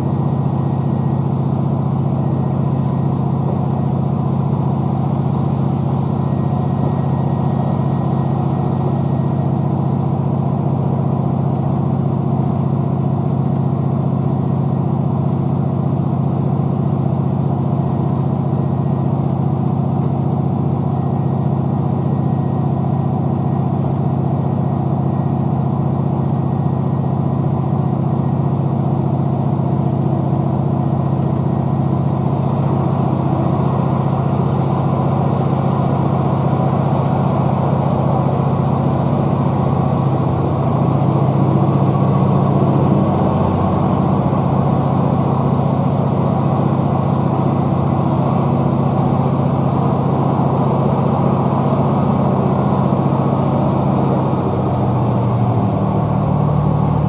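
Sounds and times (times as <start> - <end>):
diesel engine low drone: 0.0 - 57.0.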